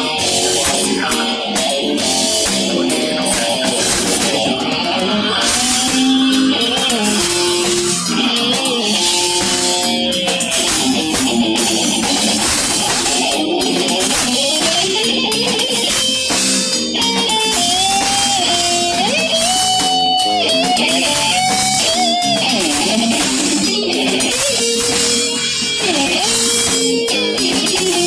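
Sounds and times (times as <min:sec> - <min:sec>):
heavy metal band playing: 0:00.0 - 0:28.0
lead guitar bending notes: 0:00.0 - 0:28.0.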